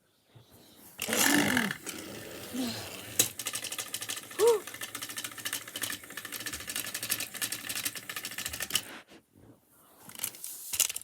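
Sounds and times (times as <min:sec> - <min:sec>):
toy train motors clicking: 0:00.9 - 0:09.0, 0:10.1 - 0:11.0.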